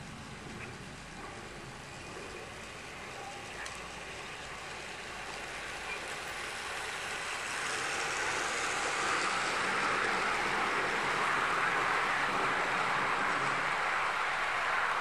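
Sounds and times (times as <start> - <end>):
model train whirring on rails: 0.0 - 15.0.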